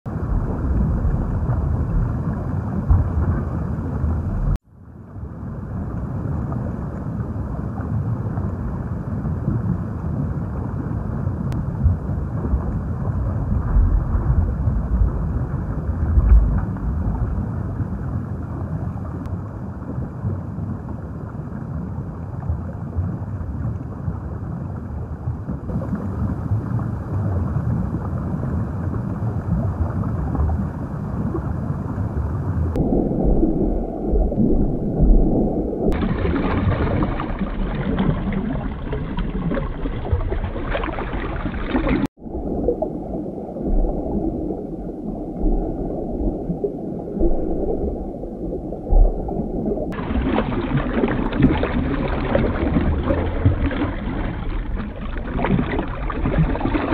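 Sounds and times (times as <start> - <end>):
underwater rumble of moving water: 0.1 - 56.9.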